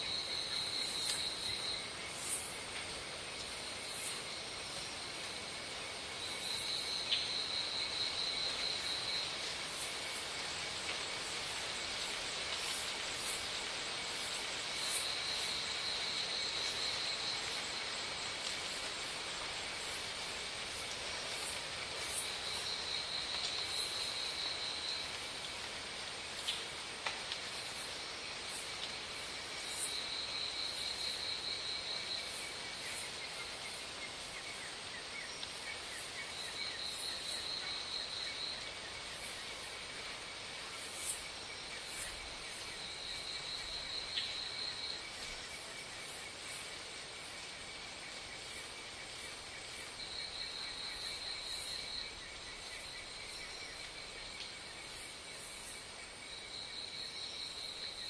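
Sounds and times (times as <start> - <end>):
hiss of background insects: 0.0 - 58.0.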